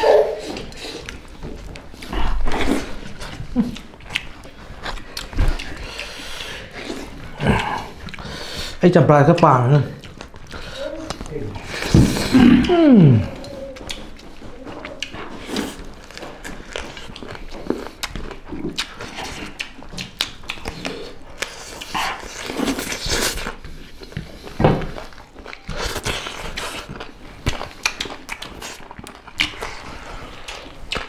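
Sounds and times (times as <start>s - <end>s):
chewing and lip-smacking: 0.0s - 31.0s.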